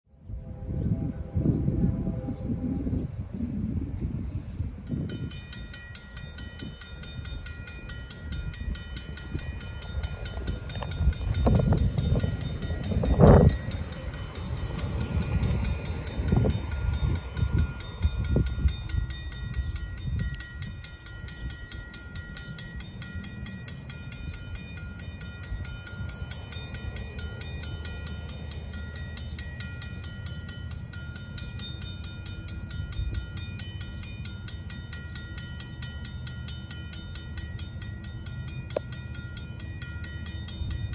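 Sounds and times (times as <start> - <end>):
crossing warning bell ringing: 4.5 - 40.9.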